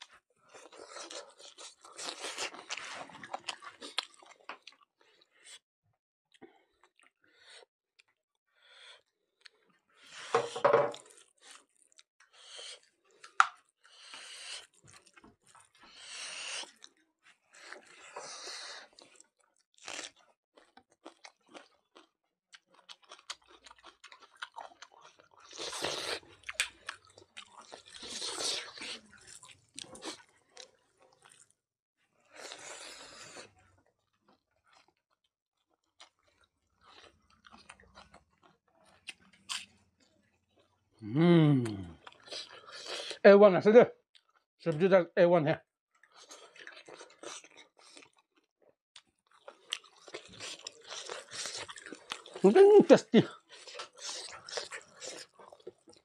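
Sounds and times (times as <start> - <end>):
person chewing food: 0.0 - 5.6, 6.3 - 31.6, 32.2 - 43.2, 44.1 - 44.5, 45.9 - 56.0.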